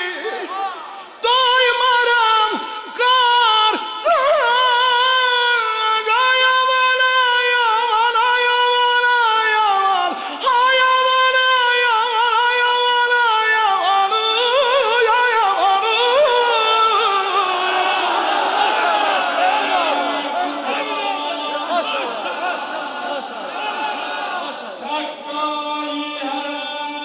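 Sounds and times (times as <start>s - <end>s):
man singing a lament: 0.0s - 18.4s, 19.3s - 22.2s, 24.8s - 27.0s.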